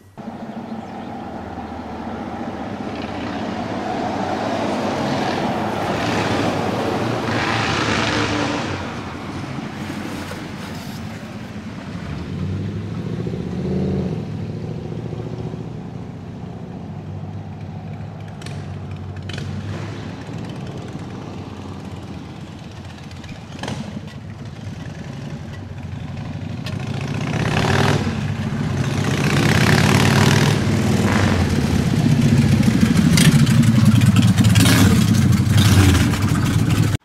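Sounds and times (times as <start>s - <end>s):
road vehicle passing: 0.0s - 37.0s.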